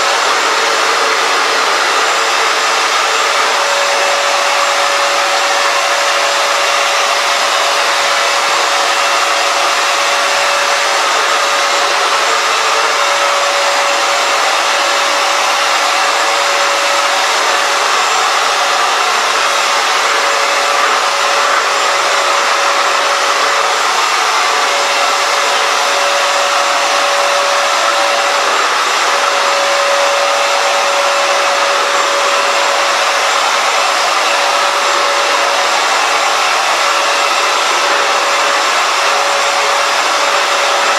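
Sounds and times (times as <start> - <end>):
floor cleaner motor whirring: 0.0 - 40.9.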